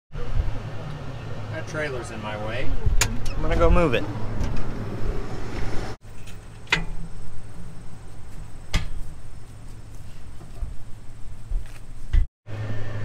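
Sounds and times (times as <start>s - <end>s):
low engine hum: 0.2s - 13.0s.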